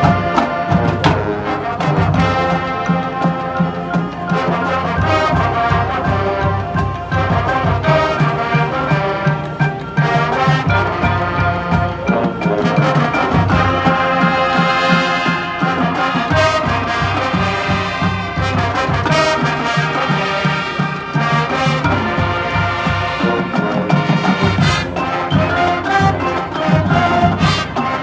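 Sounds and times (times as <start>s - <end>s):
brass section playing chords: 0.0s - 28.0s
drum strikes: 0.0s - 28.0s.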